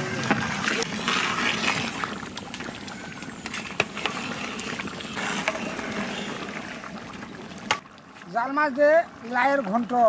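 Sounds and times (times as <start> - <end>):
curry simmering and bubbling: 0.0 - 9.8.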